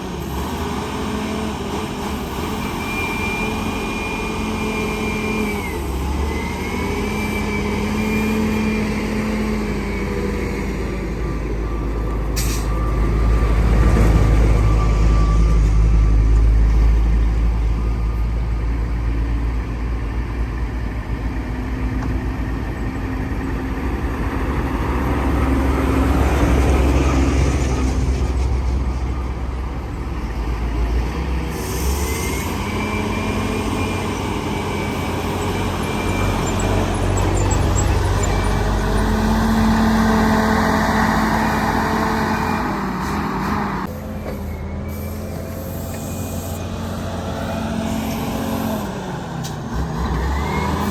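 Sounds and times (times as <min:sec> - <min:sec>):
heavy diesel engines rumbling: 0:00.0 - 0:50.9.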